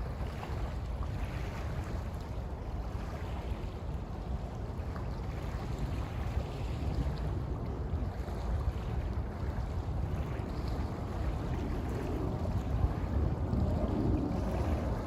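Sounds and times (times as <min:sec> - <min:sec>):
river water lapping at shore: 0:00.0 - 0:15.0
wind buffeting microphone: 0:00.0 - 0:15.0.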